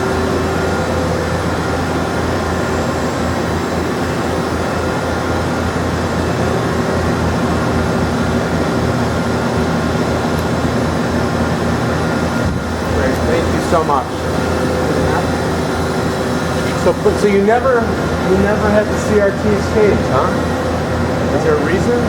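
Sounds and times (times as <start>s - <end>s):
machinery humming and whirring: 0.0s - 22.0s.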